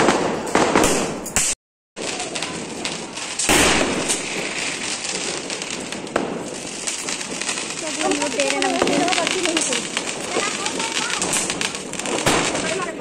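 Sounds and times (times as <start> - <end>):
firecrackers cracking and popping: 0.0 - 13.0.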